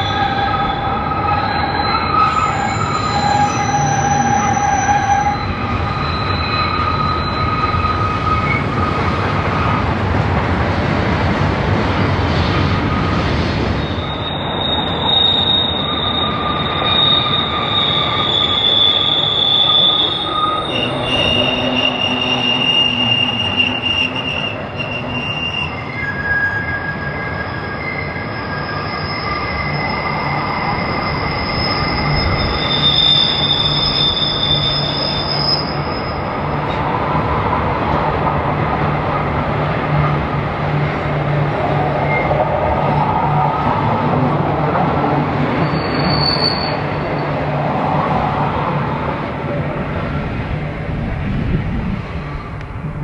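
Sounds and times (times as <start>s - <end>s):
train wheels squealing: 0.0s - 10.3s, 12.0s - 50.2s, 52.0s - 53.0s
train rumbling: 0.0s - 53.0s.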